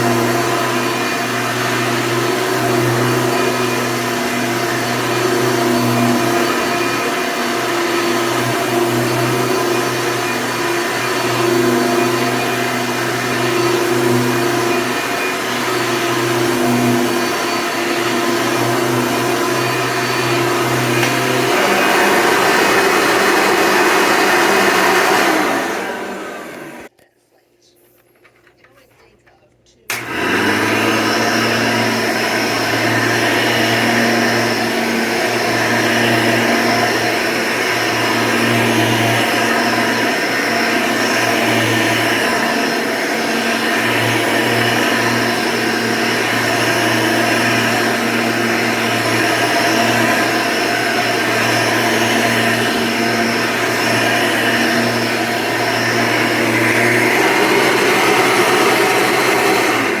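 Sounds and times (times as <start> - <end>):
vacuum cleaner hum and whine: 0.0 - 26.9, 29.9 - 60.0.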